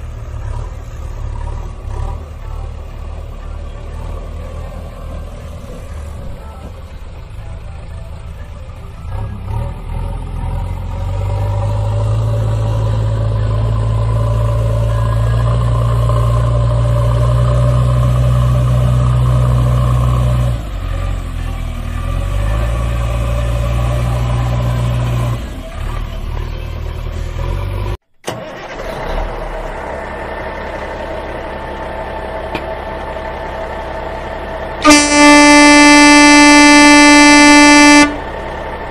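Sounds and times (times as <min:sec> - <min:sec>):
heavy vehicle engine running: 0:00.0 - 0:38.9.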